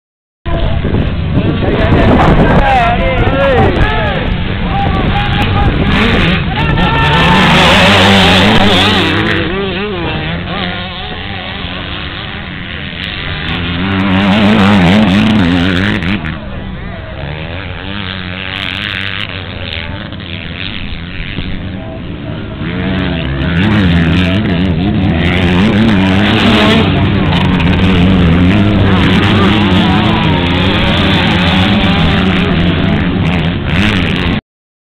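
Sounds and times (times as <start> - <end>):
motocross bikes revving past: 0.5 - 34.4.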